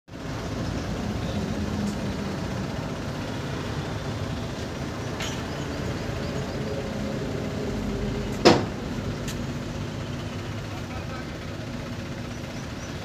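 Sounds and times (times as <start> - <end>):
vehicle engine running: 0.1 - 13.0.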